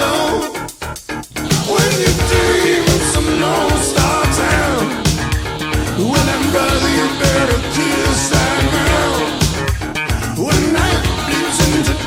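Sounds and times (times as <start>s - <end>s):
blues rock band music: 0.0s - 12.0s.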